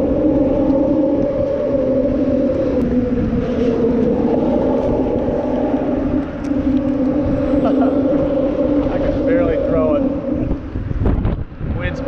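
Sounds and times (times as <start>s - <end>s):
traffic droning on bridge: 0.0s - 12.0s
wind buffeting microphone: 0.0s - 12.0s.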